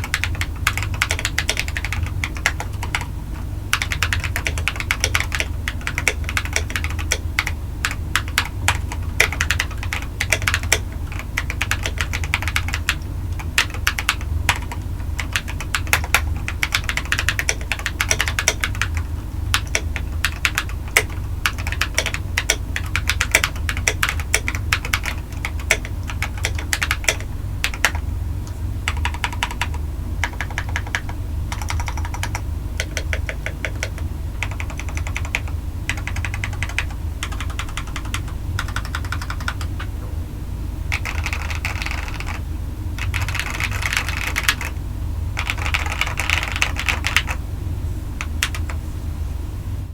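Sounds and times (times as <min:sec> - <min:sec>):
mechanical keyboard typing: 0:00.0 - 0:28.0, 0:28.8 - 0:39.9, 0:40.9 - 0:42.4, 0:43.0 - 0:44.8, 0:45.4 - 0:47.4, 0:48.2 - 0:48.8.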